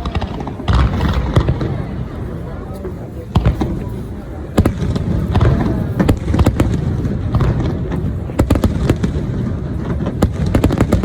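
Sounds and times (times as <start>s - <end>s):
fireworks cracks and bangs: 0.0s - 11.0s.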